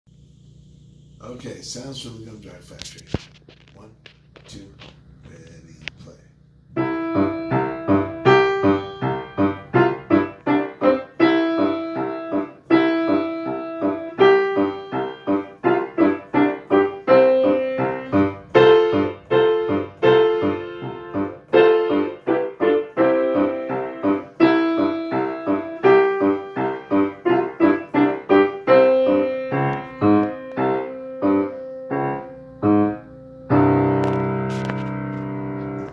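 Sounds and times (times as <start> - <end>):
piano tune: 6.7 - 35.9.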